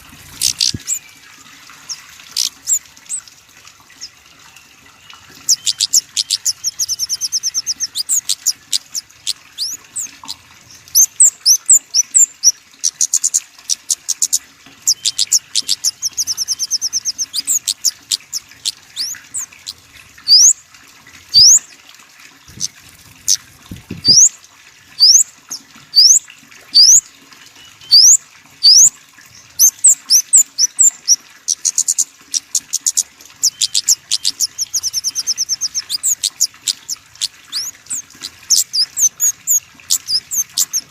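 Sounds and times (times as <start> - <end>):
small songbird trilling: 0.3 - 1.1, 1.8 - 3.2, 5.4 - 20.6, 21.3 - 21.6, 22.5 - 24.3, 25.0 - 25.3, 25.9 - 26.2, 26.8 - 27.0, 27.8 - 28.9, 29.6 - 40.9.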